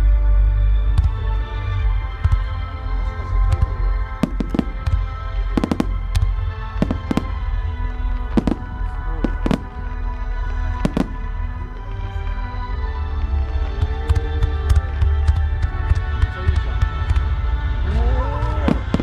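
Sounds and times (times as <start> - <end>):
deep rumble: 0.0 - 19.0
music with long held notes: 0.0 - 19.0.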